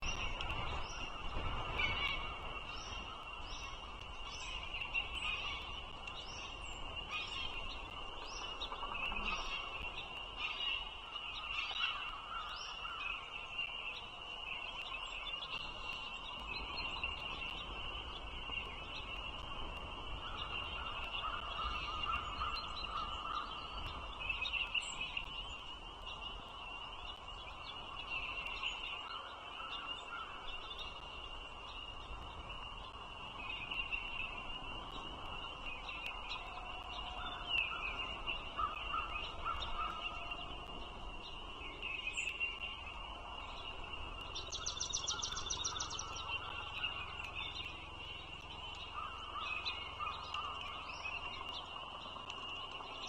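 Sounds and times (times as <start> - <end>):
low wind rumble: 0.0 - 53.0.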